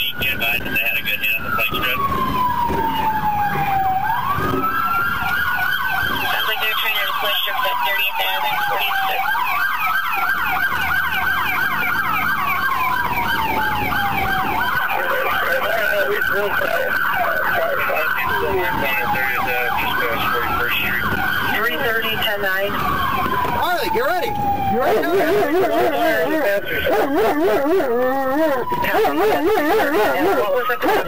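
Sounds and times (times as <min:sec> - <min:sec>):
police siren wailing: 0:00.0 - 0:31.0
police siren yelping: 0:00.0 - 0:31.0.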